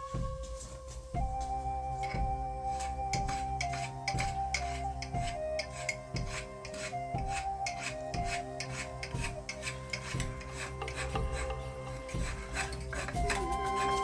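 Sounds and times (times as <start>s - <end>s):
background music: 0.0s - 14.0s
hand plane scraping wood: 2.7s - 14.0s.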